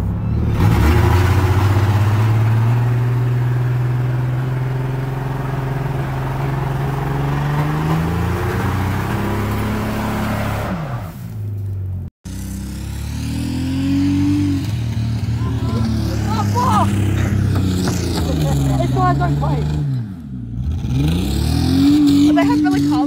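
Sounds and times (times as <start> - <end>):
car engine at high revs: 0.0 - 11.3, 12.3 - 23.0.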